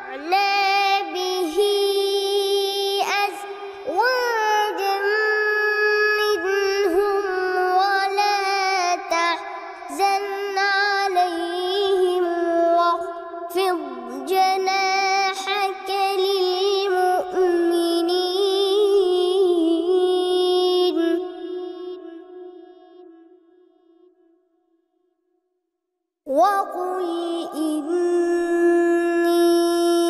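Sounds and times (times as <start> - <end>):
boy chanting melodically: 0.0 - 24.0, 26.3 - 30.0.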